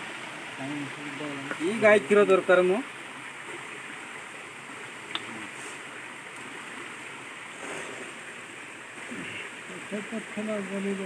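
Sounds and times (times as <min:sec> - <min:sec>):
stream water flowing: 0:00.0 - 0:11.0.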